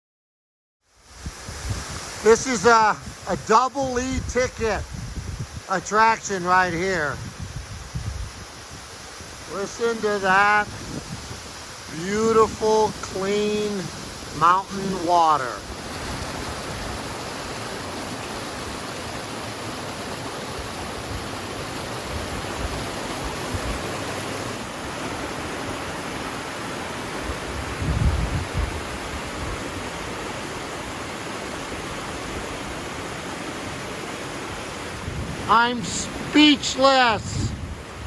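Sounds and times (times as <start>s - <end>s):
waterfall rushing: 1.2s - 38.0s.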